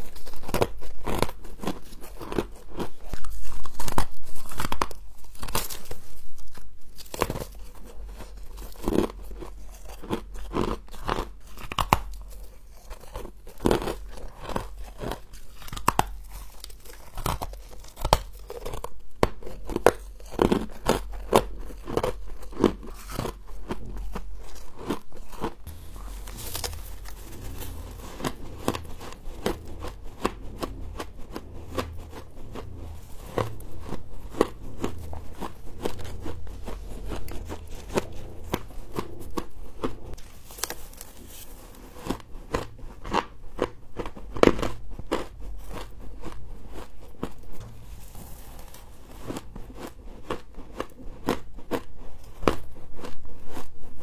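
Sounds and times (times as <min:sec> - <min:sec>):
crunching bites and chewing: 0:00.0 - 0:54.0.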